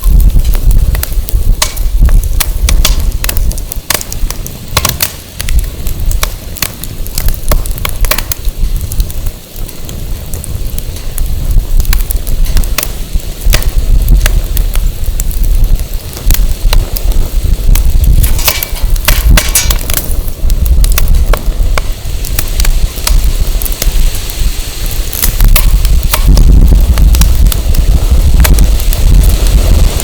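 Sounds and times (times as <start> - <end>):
firewood crackling and popping: 0.0 - 30.0
wind rumble on microphone: 0.0 - 30.0.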